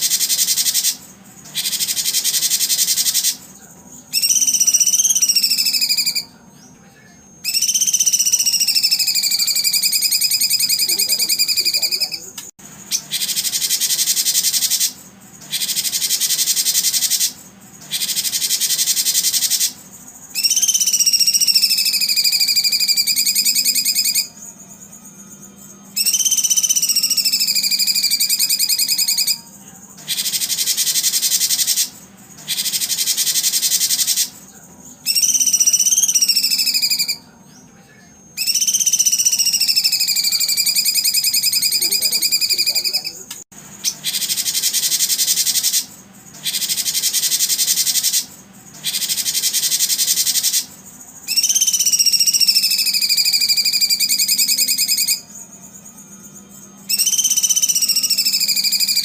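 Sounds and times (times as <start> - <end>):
long bird whistles: 0.0 - 6.4, 7.4 - 43.2, 43.8 - 59.0
high rapidly pulsing buzz: 0.0 - 59.0.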